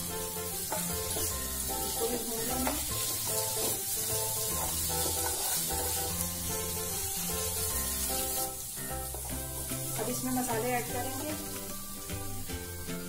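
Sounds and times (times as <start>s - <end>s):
spatula stirring in a pan: 0.0s - 12.2s
instrumental background music: 0.0s - 13.0s
oil sizzling: 0.0s - 13.0s.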